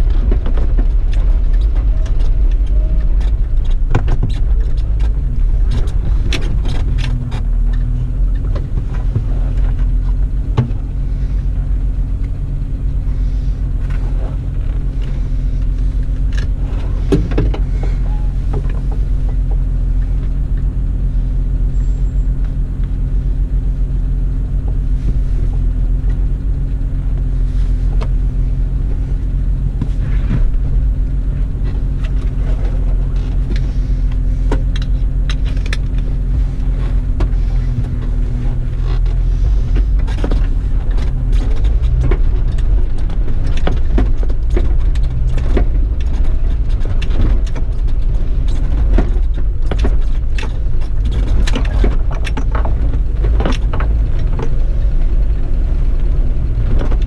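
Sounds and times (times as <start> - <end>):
body and suspension rattling: 0.0 - 57.0
off-road engine running: 0.0 - 57.0.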